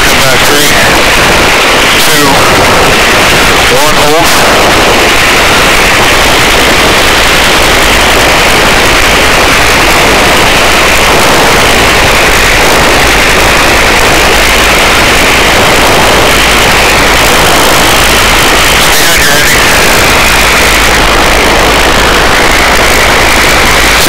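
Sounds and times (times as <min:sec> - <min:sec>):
helicopter rotor and engine: 0:00.0 - 0:24.0.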